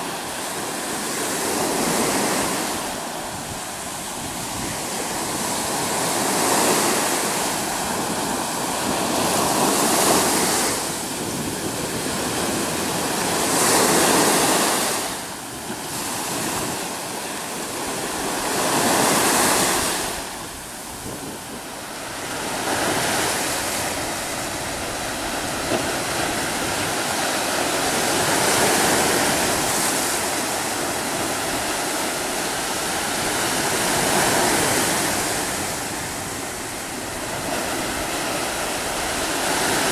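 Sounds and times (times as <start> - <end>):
surf breaking on rocks: 0.1 - 39.9.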